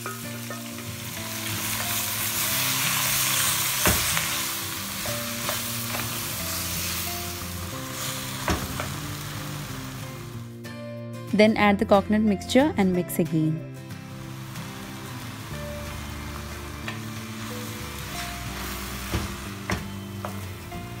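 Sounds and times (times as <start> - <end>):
food sizzling in hot oil: 0.0 - 10.5, 13.8 - 21.0
soft background music: 0.0 - 21.0.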